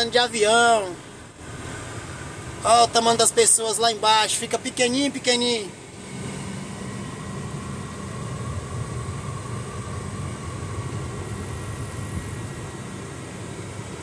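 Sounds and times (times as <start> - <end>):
vehicle engine drone and road noise: 0.0 - 14.0.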